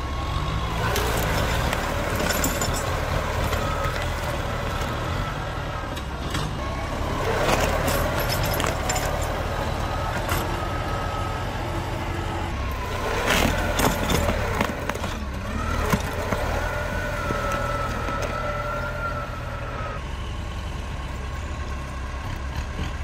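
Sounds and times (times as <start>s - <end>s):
plough churning soil: 0.0s - 23.0s
tractor engine running: 0.0s - 23.0s.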